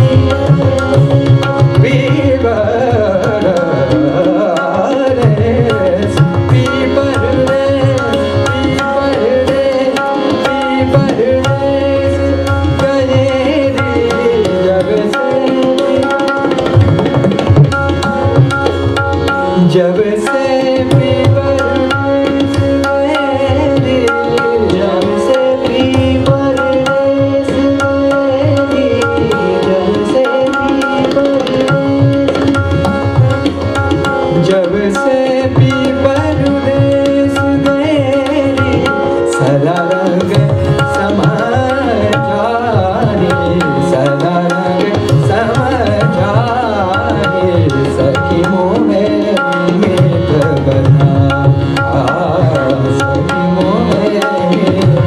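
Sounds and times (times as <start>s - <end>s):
harmonium: 0.0s - 55.0s
man singing: 0.0s - 55.0s
tabla rhythm: 0.0s - 55.0s
tanpura drone: 0.0s - 55.0s.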